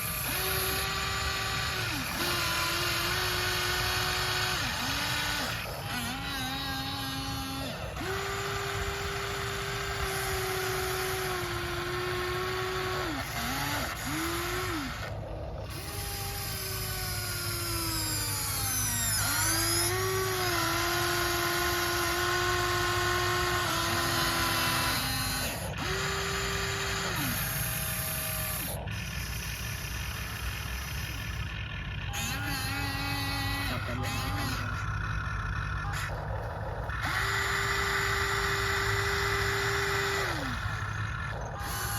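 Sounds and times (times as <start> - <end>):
toy excavator motors whining: 0.0 - 41.9.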